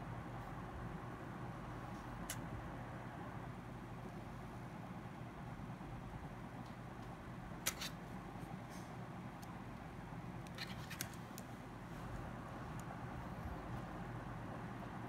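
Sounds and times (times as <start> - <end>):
low background hum and hiss: 0.0 - 15.0.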